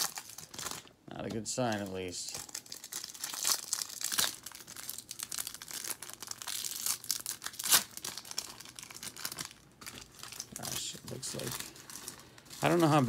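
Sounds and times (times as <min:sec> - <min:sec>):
foil wrappers crinkling: 0:00.0 - 0:13.0.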